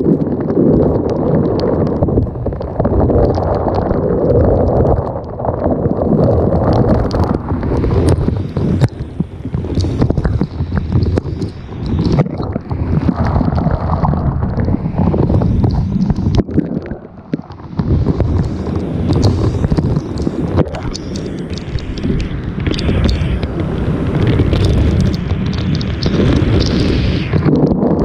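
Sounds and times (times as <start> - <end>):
heavy rain: 0.0 - 28.0
raindrops ticking on camera: 0.0 - 28.0
wind gusting over microphone: 0.0 - 28.0.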